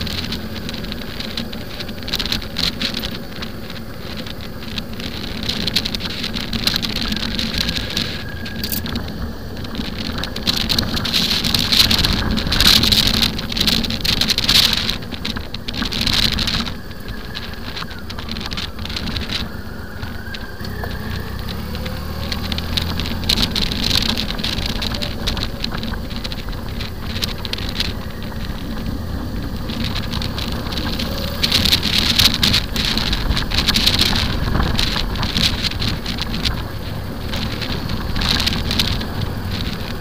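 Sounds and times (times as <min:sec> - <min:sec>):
motorcycle engine drone: 0:00.0 - 0:40.0
wind buffeting microphone: 0:00.0 - 0:40.0.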